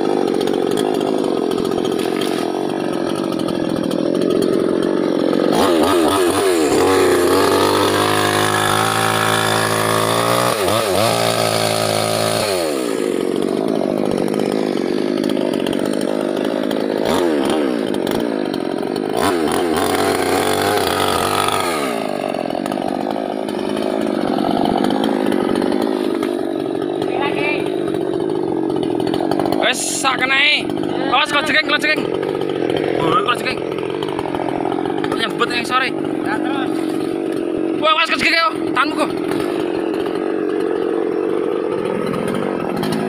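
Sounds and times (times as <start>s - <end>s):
mini chainsaw cutting wood: 0.0s - 43.0s.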